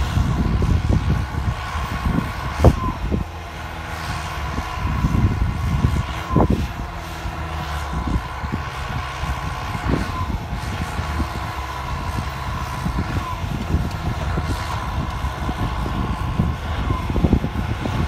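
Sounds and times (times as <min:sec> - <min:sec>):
tractor diesel engine drone: 0:00.0 - 0:18.0.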